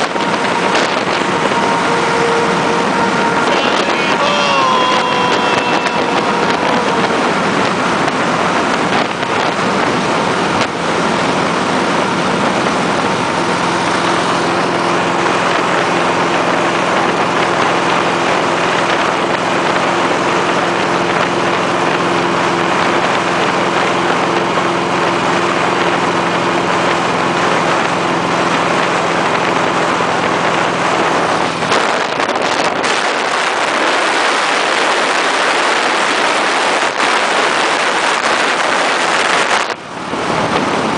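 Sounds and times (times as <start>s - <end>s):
motorcycle engine droning: 0.0s - 40.9s
wind rushing over microphone: 0.0s - 40.9s.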